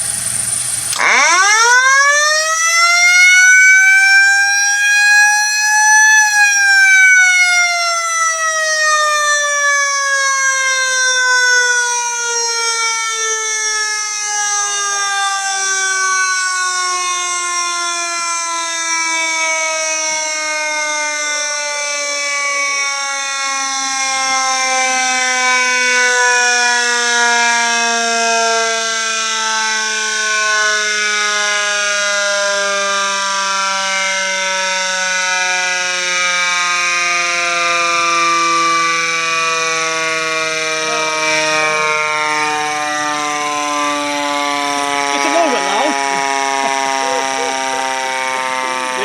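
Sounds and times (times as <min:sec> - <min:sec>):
motor-driven siren winding down: 0:00.0 - 0:49.0.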